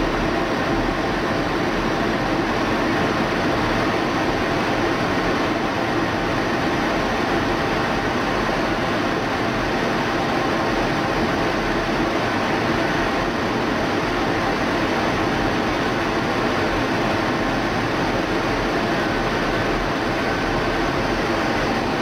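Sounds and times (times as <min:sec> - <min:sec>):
jet engine and rushing air roar: 0:00.0 - 0:22.0.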